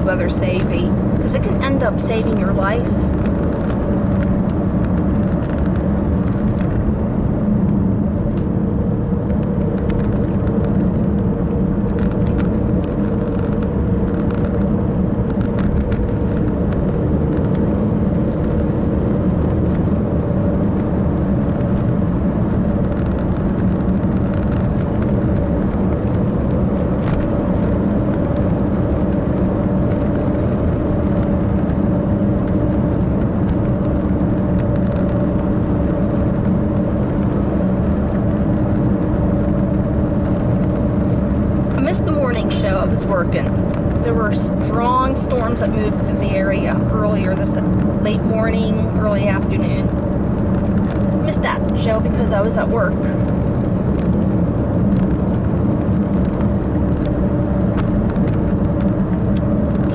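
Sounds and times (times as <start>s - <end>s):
road and engine drone in car: 0.0s - 59.9s.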